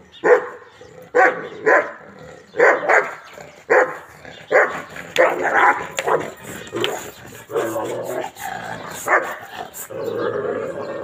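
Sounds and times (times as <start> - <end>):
large dog barking fiercely: 0.1 - 11.0.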